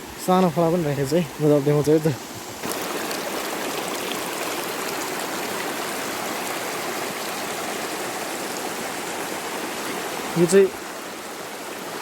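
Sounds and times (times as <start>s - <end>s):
stream flowing and splashing: 0.0s - 12.0s.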